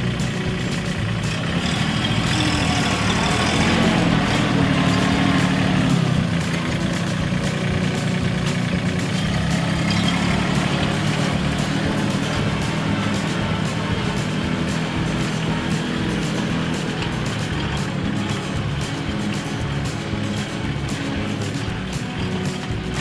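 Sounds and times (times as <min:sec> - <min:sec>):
diesel tractor engine running: 0:00.0 - 0:23.0.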